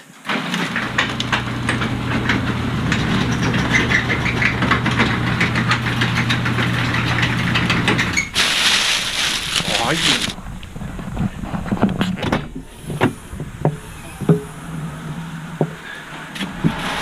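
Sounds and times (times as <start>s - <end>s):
vehicle engine humming: 0.7s - 17.0s.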